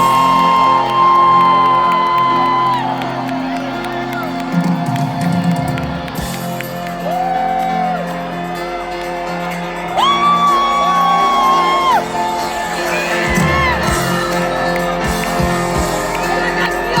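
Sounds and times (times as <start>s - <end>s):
crowd noise: 0.0s - 17.0s
music over a pa: 0.0s - 17.0s.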